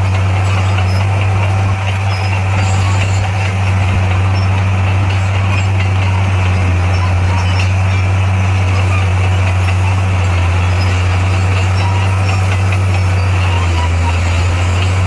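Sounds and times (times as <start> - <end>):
bulldozer diesel engine droning: 0.0 - 15.0.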